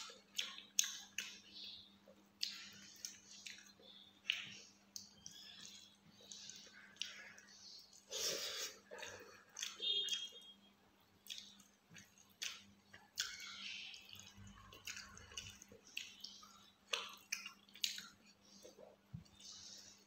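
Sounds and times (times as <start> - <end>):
chewing and mouth smacks: 0.0 - 10.5, 11.2 - 20.0.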